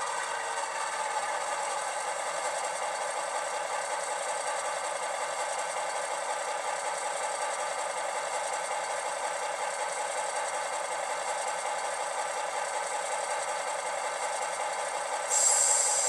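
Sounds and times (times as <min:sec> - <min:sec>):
model diesel locomotive engine: 0:00.0 - 0:16.0.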